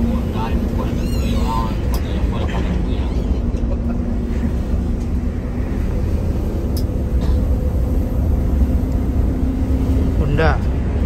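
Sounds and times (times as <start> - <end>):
large vehicle engine running: 0.0 - 11.0.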